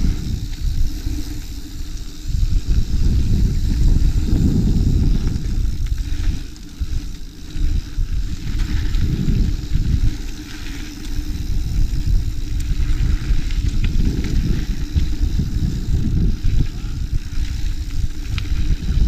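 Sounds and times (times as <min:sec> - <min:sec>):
bike tyres rumbling on dirt: 0:00.0 - 0:19.0
wind buffeting microphone: 0:00.0 - 0:19.0.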